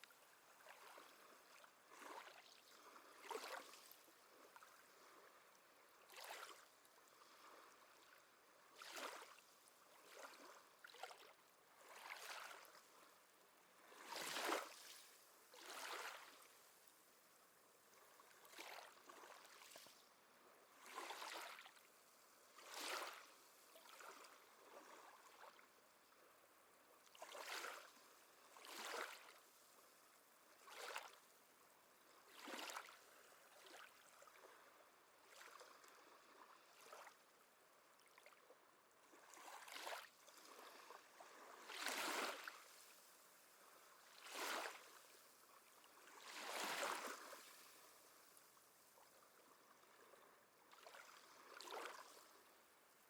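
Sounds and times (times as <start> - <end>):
gentle waves lapping: 0.0 - 53.0.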